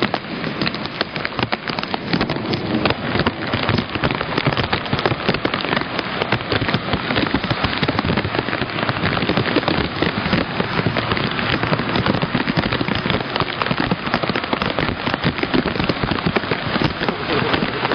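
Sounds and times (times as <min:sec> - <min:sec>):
heavy rain pattering: 0:00.0 - 0:17.9.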